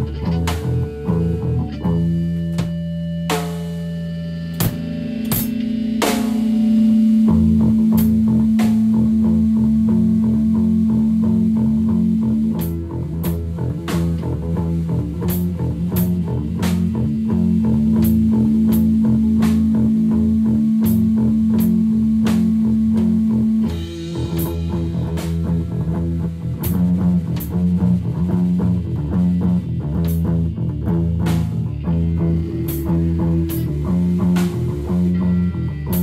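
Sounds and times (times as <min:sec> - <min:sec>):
rock music: 0:00.0 - 0:36.0.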